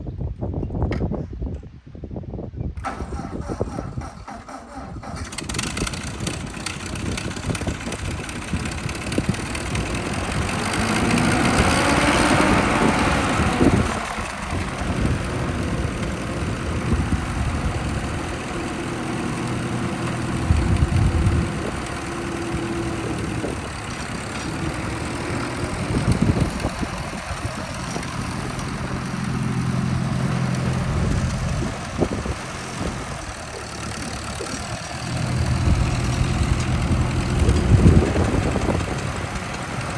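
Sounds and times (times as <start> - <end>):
tractor engine revving and idling: 2.8 - 39.9.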